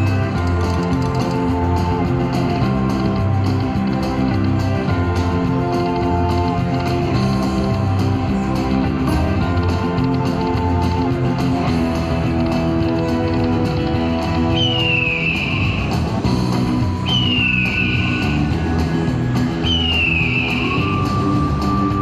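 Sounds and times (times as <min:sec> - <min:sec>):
slot machine guitar music: 0:00.0 - 0:22.0.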